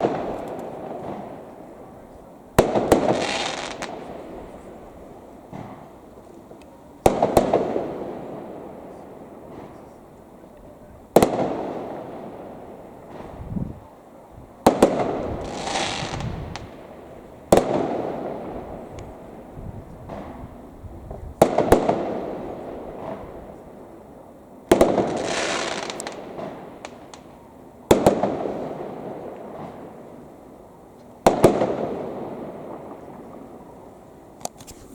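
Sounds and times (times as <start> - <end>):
firework bangs echoing: 0.0 - 30.6, 31.2 - 34.9.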